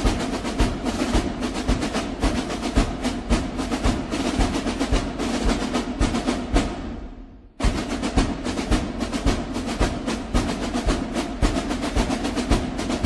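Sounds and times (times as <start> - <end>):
snare drum rolls: 0.0 - 13.0.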